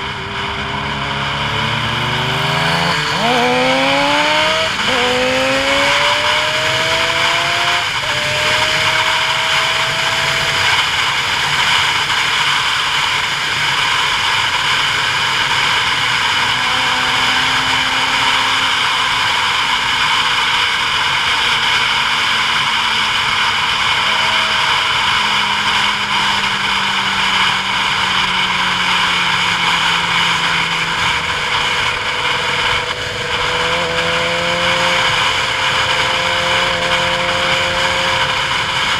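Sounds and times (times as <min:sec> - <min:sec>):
vehicle engine: 0:00.0 - 0:38.9.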